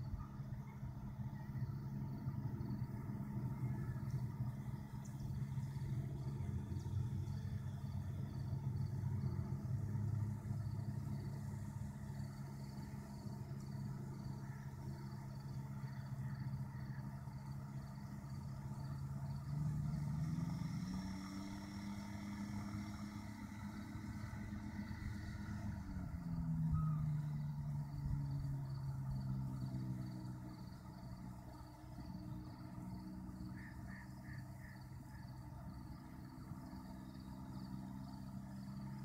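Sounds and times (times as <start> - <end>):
distant ultralight aircraft engine: 0.0 - 39.0.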